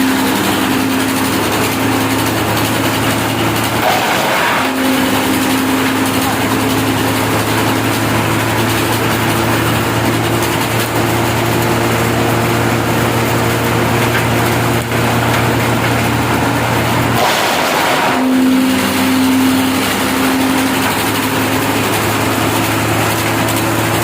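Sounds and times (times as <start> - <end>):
wood chipper engine running: 0.0 - 24.0.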